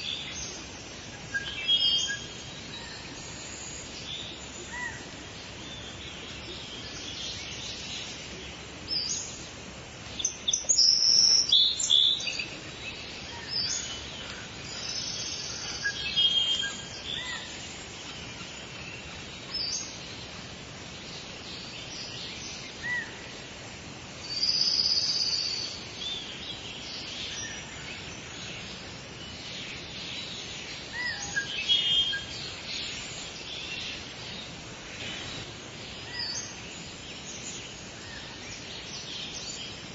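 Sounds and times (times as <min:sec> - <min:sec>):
outdoor ambience hiss: 0:00.0 - 0:39.9
songbirds chirping and singing: 0:00.0 - 0:39.9.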